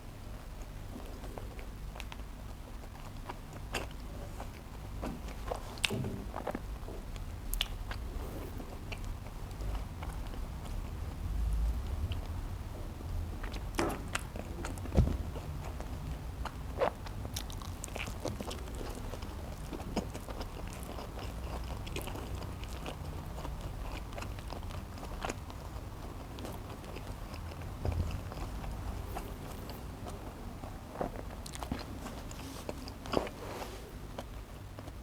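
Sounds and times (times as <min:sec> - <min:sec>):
wet chewing mouth clicks: 0:00.6 - 0:11.1, 0:13.4 - 0:35.0.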